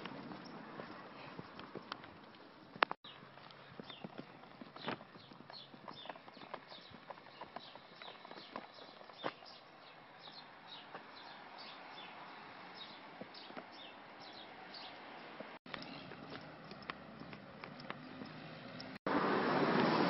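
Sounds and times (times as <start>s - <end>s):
footsteps on pavement: 0.0s - 19.0s.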